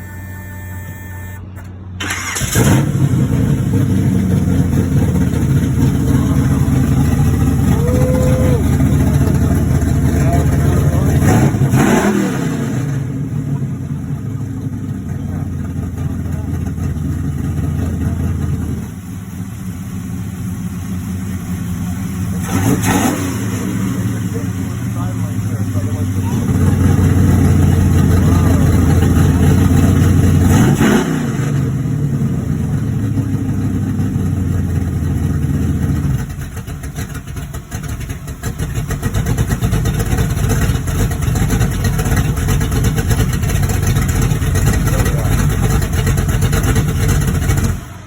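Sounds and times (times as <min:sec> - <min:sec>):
car engine cranking and starting: 0:00.0 - 0:48.0
car engine running with deep rumble: 0:00.0 - 0:48.0.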